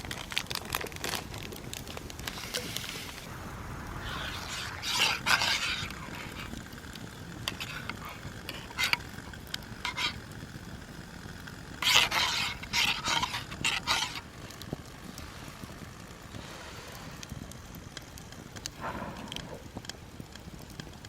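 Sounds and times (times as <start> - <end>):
campfire crackling and popping: 0.0 - 21.0
fire hissing: 0.0 - 21.0.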